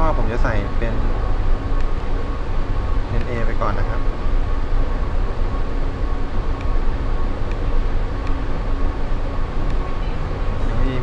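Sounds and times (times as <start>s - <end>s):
faint hum: 0.0s - 11.0s
low rumbling background noise: 0.0s - 11.0s.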